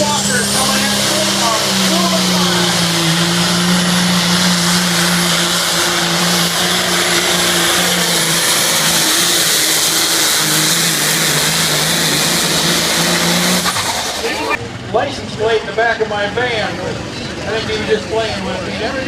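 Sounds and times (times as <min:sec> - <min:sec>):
diesel tractor engine at full load: 0:00.0 - 0:19.0.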